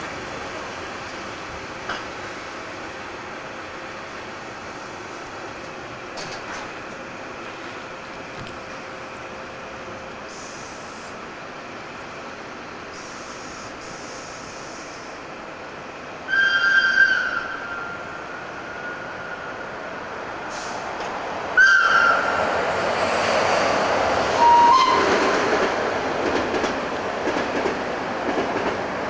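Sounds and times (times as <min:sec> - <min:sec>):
train approaching: 0:00.0 - 0:29.0.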